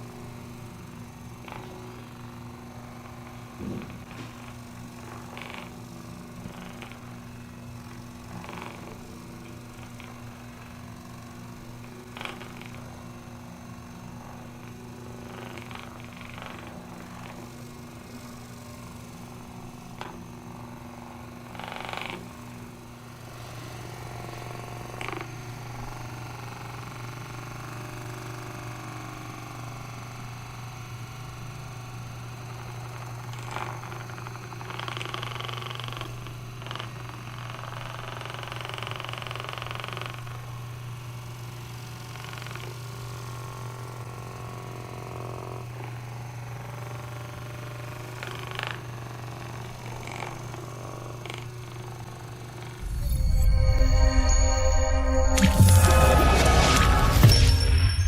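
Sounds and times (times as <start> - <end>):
electric massager buzzing: 0.0 - 56.1.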